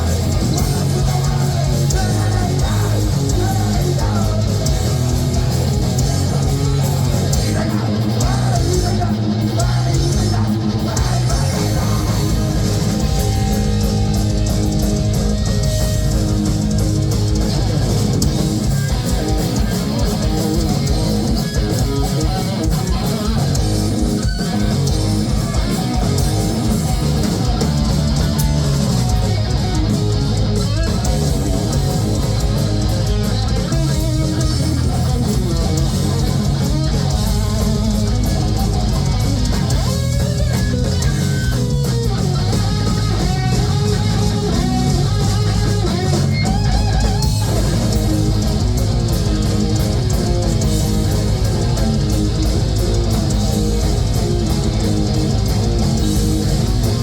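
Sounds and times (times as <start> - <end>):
heavy metal band playing live: 0.0 - 57.0.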